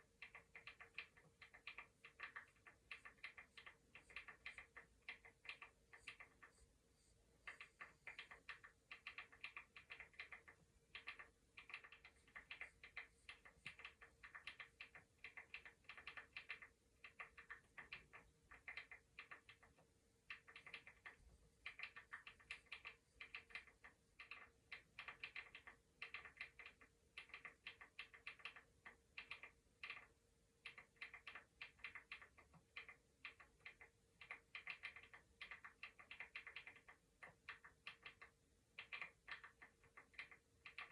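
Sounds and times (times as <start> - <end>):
faint steady hum: 0.0 - 40.9
keyboard typing: 0.0 - 40.9.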